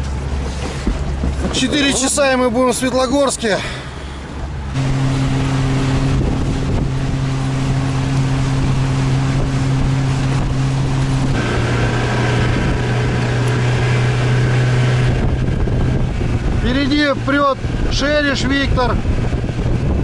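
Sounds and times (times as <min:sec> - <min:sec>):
wind buffeting microphone: 0:00.0 - 0:03.2, 0:04.2 - 0:20.0
outboard motor running: 0:00.0 - 0:20.0.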